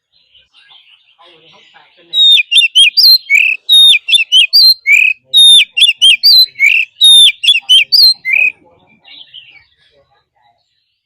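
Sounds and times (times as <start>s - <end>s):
magpie-robin singing: 0.0s - 9.8s.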